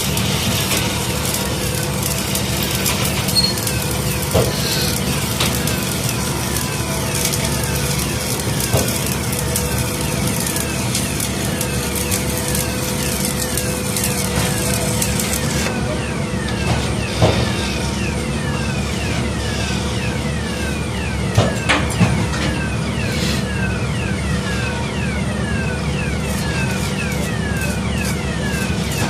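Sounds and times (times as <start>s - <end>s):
arc welding crackling: 0.0s - 29.0s
steady hum: 0.0s - 29.0s.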